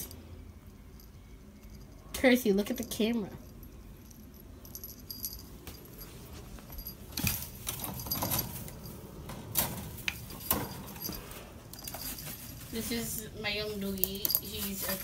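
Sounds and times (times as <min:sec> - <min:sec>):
small bell jingling: 0:00.0 - 0:09.1, 0:10.0 - 0:15.0
wire cage rattling: 0:01.0 - 0:13.2.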